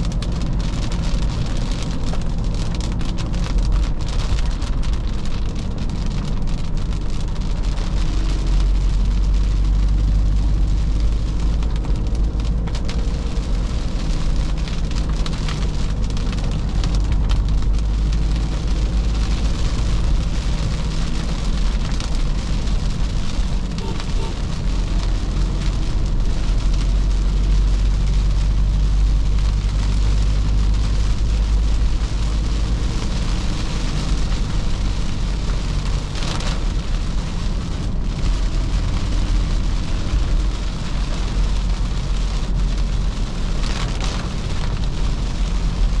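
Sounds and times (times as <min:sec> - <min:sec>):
car engine rumbling: 0:00.0 - 0:46.0
rain and tyre spray hiss: 0:00.0 - 0:46.0.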